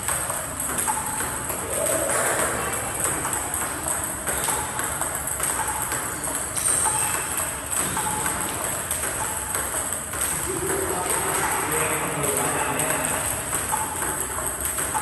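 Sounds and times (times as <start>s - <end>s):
table tennis balls pinging: 0.0s - 15.0s.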